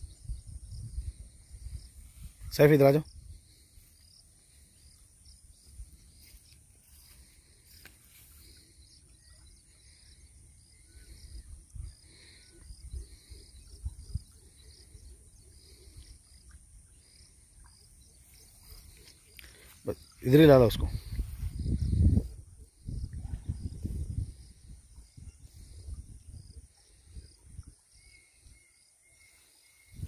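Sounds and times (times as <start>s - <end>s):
faint bird chirps: 0.0s - 30.0s.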